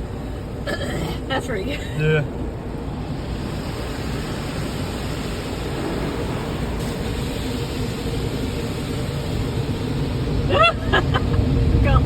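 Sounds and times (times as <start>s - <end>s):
car wash spray and machinery: 0.0s - 12.0s.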